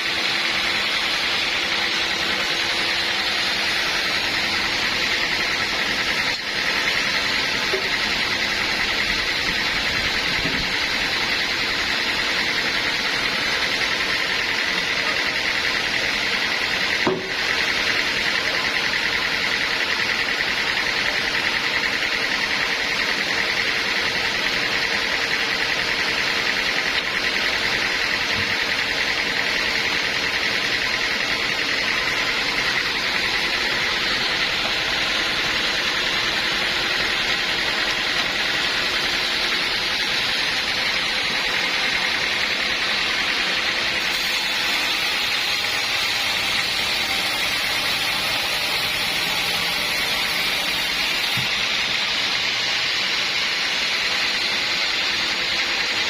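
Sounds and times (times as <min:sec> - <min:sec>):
sawmill saw and engine droning: 0:00.0 - 0:56.0.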